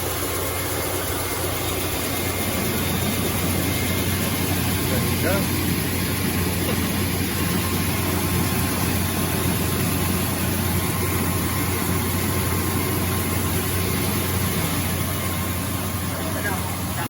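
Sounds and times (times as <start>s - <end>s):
rice mill machine humming: 0.0s - 17.0s.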